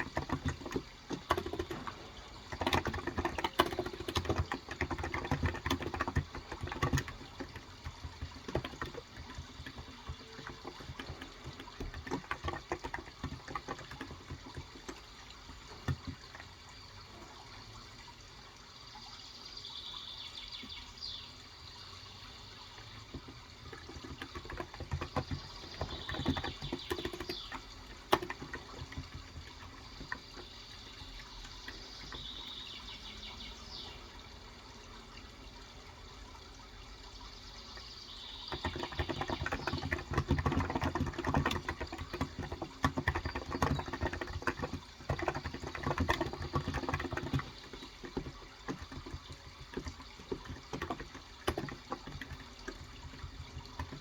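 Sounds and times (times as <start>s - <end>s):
flowing water: 0.0s - 54.0s.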